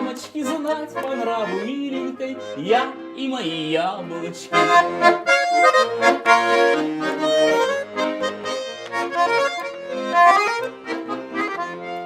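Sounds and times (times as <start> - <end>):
button accordion playing folk melody: 0.0 - 12.0.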